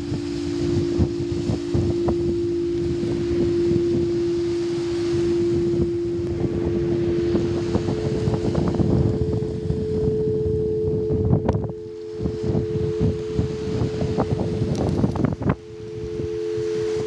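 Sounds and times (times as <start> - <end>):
higher singing bowl tone: 0.0 - 17.0
singing bowl held tone: 0.0 - 17.0
wind buffeting microphone: 0.0 - 17.0.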